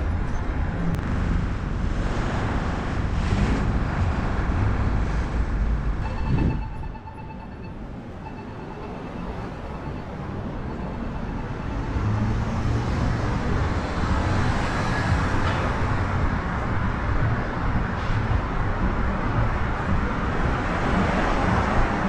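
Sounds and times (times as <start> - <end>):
passing cars: 0.0 - 22.0.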